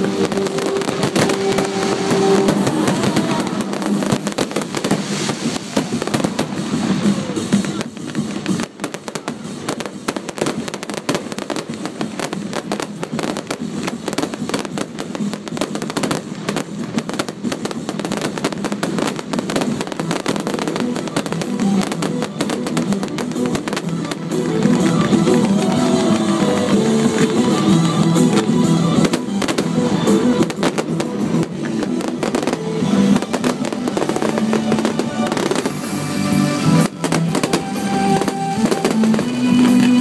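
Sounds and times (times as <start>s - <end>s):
fireworks popping and crackling: 0.0s - 40.0s
music: 0.0s - 40.0s.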